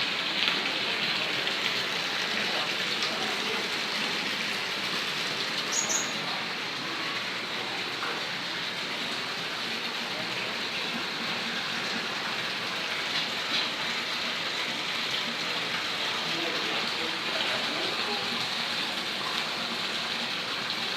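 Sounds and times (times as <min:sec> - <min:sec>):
falling water hissing: 0:00.0 - 0:20.9.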